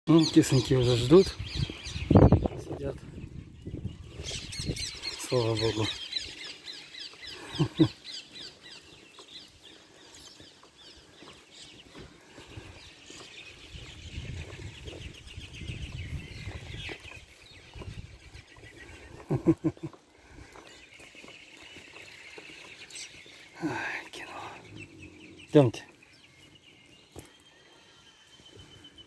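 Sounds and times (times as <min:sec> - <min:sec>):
small birds chirping: 0:00.1 - 0:29.0.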